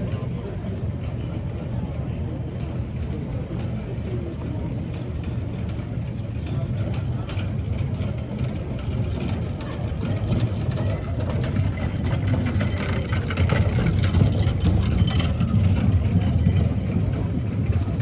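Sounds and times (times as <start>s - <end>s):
faint clatter: 0.0s - 18.0s
low mechanical rumble: 0.0s - 18.0s.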